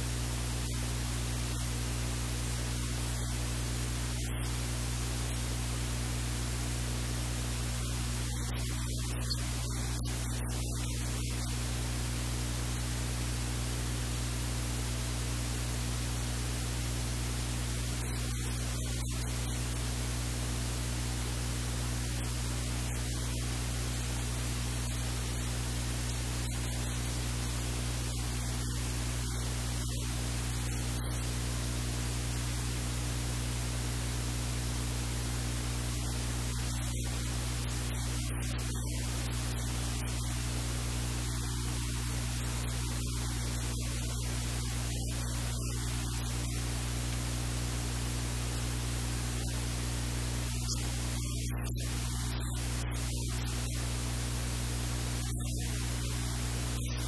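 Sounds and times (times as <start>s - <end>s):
low electrical hum: 0.0s - 57.0s
steady hiss: 0.0s - 57.0s.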